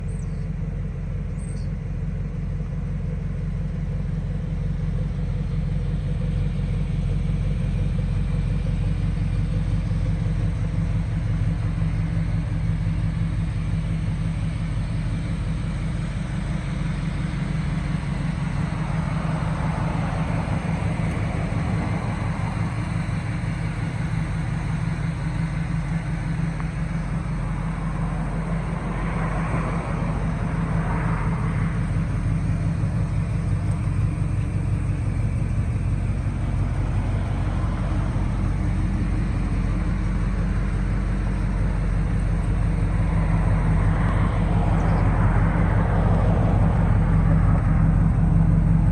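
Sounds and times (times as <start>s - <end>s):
truck engine idling: 0.0s - 48.9s.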